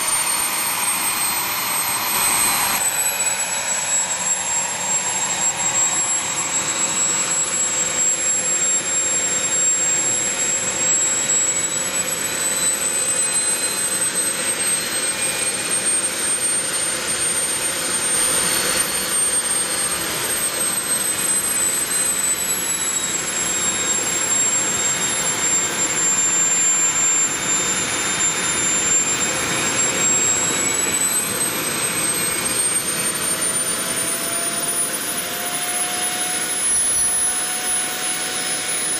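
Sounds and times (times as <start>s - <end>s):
model jet engine whining: 0.0s - 38.9s.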